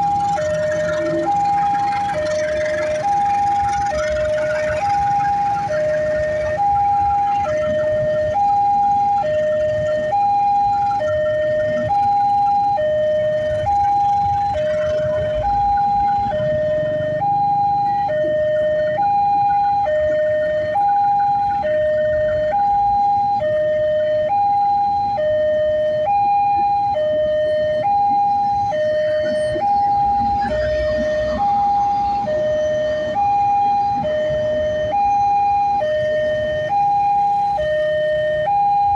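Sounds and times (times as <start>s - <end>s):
level-crossing two-tone alarm: 0.0s - 38.9s.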